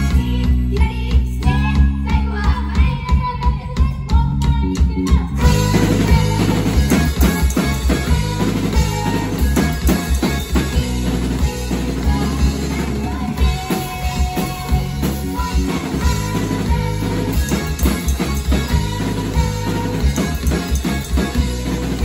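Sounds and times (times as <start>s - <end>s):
girl singing: 0.0s - 9.9s, 11.4s - 20.6s
drum kit: 0.0s - 22.0s
electric keyboard: 3.8s - 22.0s.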